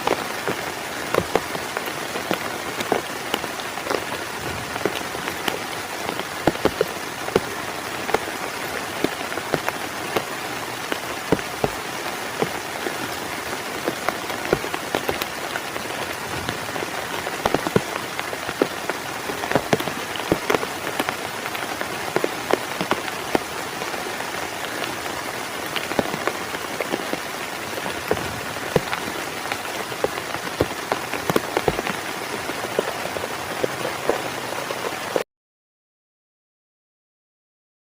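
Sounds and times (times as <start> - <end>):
heavy rain on a tent: 0.0 - 35.2.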